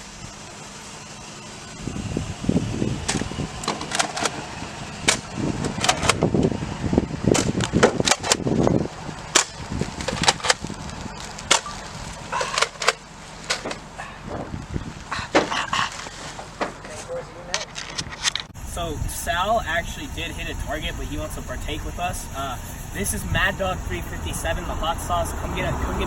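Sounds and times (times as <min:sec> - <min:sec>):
moving car rumble: 0:00.0 - 0:26.0
wind: 0:00.0 - 0:26.0.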